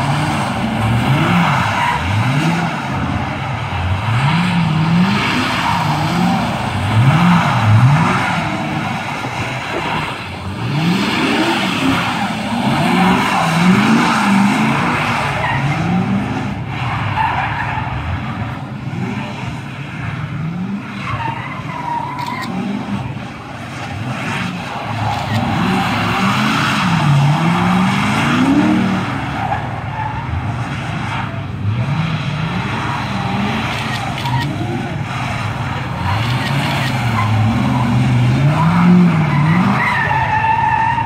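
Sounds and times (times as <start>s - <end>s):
car engine revving: 0.0s - 41.0s
tyres spinning on wet asphalt: 0.0s - 41.0s.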